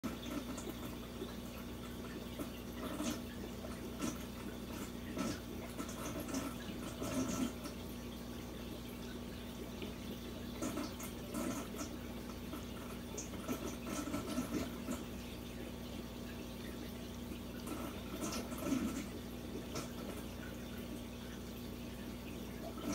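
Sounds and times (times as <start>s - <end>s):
aquarium water trickling and bubbling: 0.0s - 22.9s
steady low hum: 0.0s - 22.9s
water drips and splashes: 0.0s - 22.9s.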